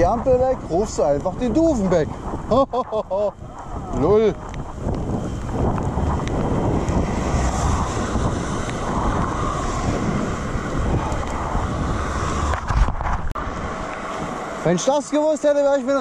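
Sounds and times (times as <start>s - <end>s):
road and traffic noise: 0.0s - 16.0s
wind rushing over microphone: 0.0s - 16.0s.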